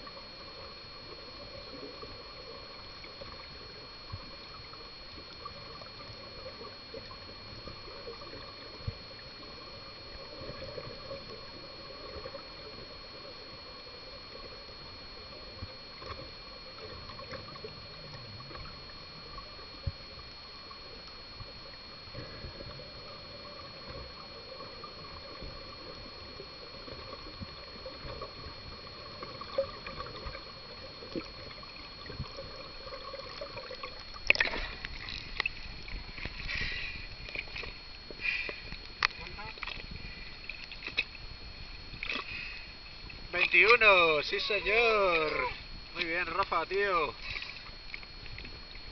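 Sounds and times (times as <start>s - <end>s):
small ticks: 0.0s - 43.9s, 44.6s - 48.9s
muffled underwater hiss: 0.0s - 48.9s
thin steady tones: 0.0s - 48.9s.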